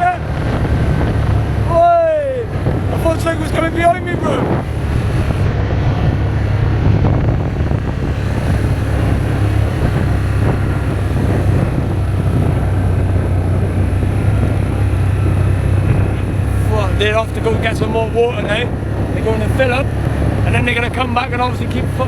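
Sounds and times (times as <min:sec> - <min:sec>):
low engine drone: 0:00.0 - 0:22.0.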